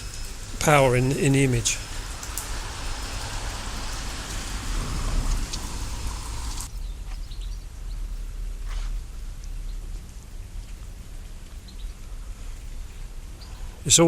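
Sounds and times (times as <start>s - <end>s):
rain falling: 0.0s - 14.0s
low rumble: 1.8s - 13.8s.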